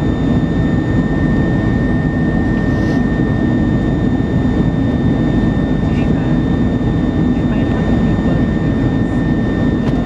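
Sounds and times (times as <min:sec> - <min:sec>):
rumble of airflow and jet engines: 0:00.0 - 0:10.0.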